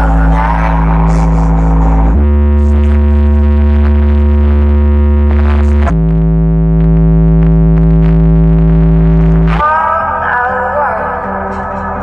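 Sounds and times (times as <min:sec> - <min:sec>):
synthesizer music with heavy bass: 0:00.0 - 0:12.0.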